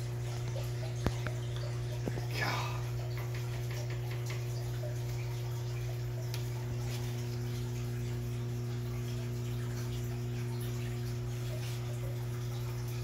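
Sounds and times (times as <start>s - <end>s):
air bubbles popping in water: 0.0s - 13.0s
air pump humming: 0.0s - 13.0s.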